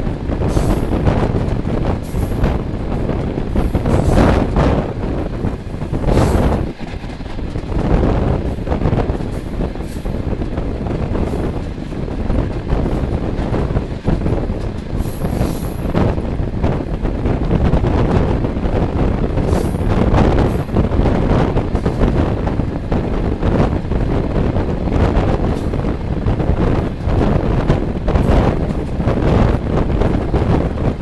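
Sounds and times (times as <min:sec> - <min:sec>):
train wheels rumbling on rails: 0:00.0 - 0:31.0
wind buffeting microphone: 0:00.0 - 0:31.0.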